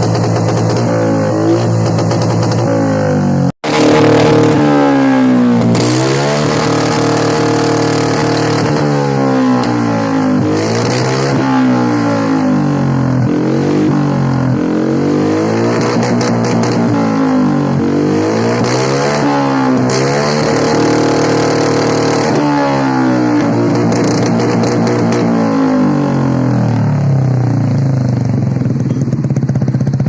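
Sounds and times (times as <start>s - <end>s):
scooter engine revving: 0.0s - 30.0s.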